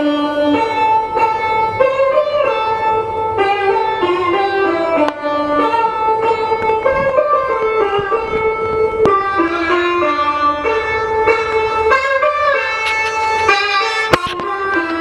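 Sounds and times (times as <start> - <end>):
instrumental music over loudspeakers: 0.0 - 15.0.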